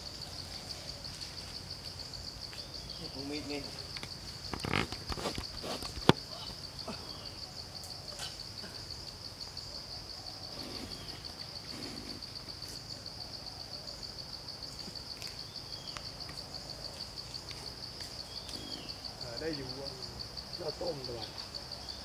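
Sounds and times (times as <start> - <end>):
insects pulsing drone: 0.0 - 22.0.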